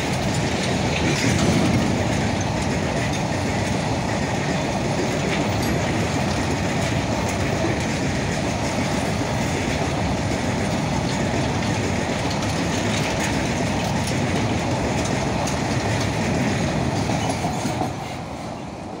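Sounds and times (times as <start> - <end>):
wheels clattering over rail joints: 0.0 - 18.2
train wheels rumbling on rails: 0.0 - 19.0.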